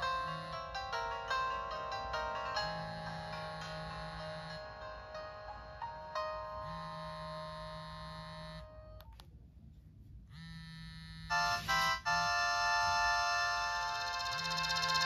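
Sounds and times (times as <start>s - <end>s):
synthesized ringtone tune: 0.0s - 9.0s, 11.3s - 15.0s.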